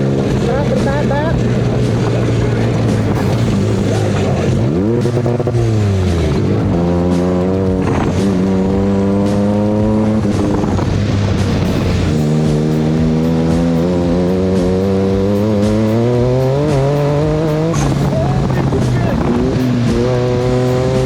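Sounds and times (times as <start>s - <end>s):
background music: 0.0s - 21.0s
buggy engine running hard: 0.0s - 21.0s.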